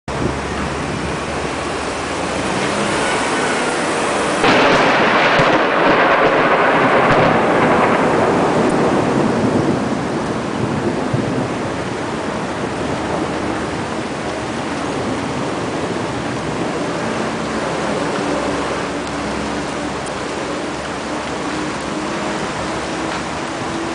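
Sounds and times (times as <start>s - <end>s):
rain and wind hiss: 0.1s - 23.9s
thunder rumbling: 0.1s - 23.9s.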